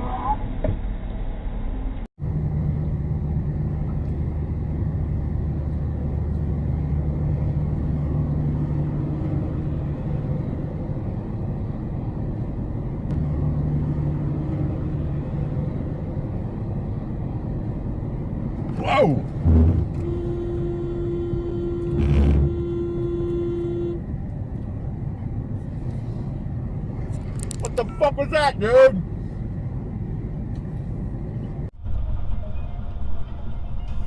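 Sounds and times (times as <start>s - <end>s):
low car engine hum: 0.0s - 34.0s
road rumble: 0.0s - 34.0s.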